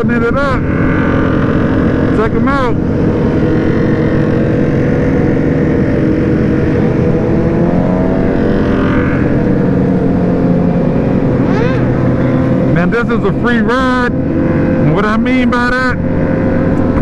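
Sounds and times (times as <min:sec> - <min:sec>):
motorcycle engine cruising: 0:00.0 - 0:17.0
wind and road rush: 0:00.0 - 0:17.0.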